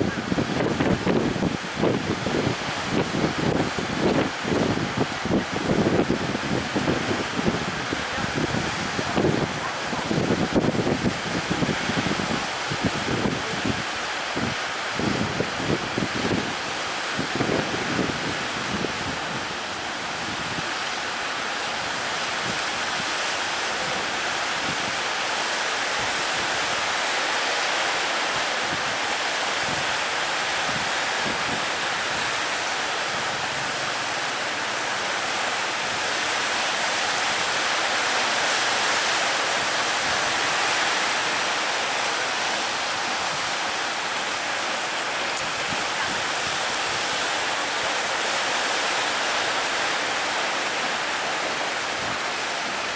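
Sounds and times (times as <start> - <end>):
ocean waves breaking: 0.0 - 52.9.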